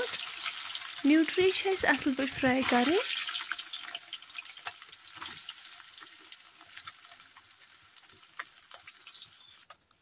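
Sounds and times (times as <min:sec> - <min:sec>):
food sizzling in hot oil: 0:00.0 - 0:09.8
oil crackles and pops: 0:00.0 - 0:10.0.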